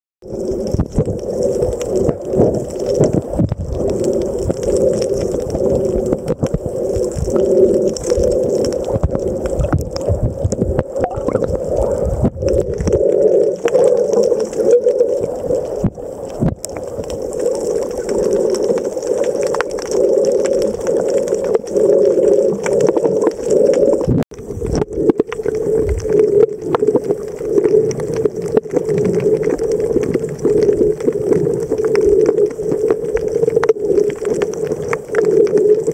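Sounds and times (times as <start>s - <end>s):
muffled underwater water rush: 0.2s - 35.9s.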